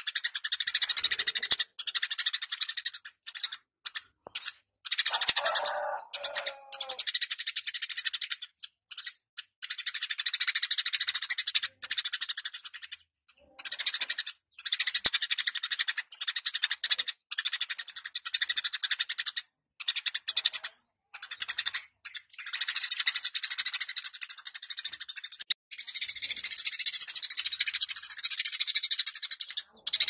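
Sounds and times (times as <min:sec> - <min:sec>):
sparrow chirping chatter: 0:00.0 - 0:30.0.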